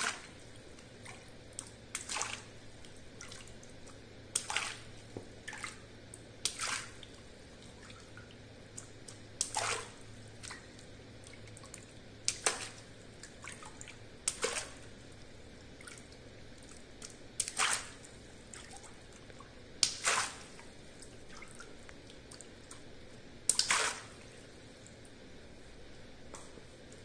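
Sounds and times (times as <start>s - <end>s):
water splashing: 0.0s - 22.9s, 23.5s - 25.0s
water dripping: 0.0s - 27.0s.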